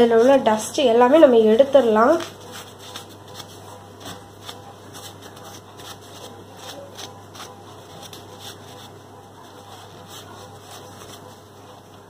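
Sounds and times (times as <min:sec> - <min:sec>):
steady low hum: 0:00.0 - 0:12.0
cloth rubbing on metal: 0:01.8 - 0:12.0.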